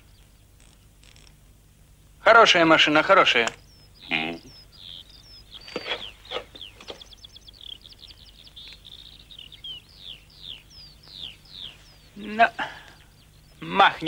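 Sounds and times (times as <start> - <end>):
high whistled chirps: 2.4 - 13.7.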